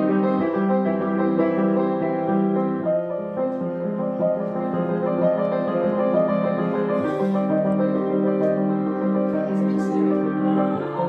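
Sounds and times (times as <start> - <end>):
grand piano playing a waltz: 0.0 - 11.0.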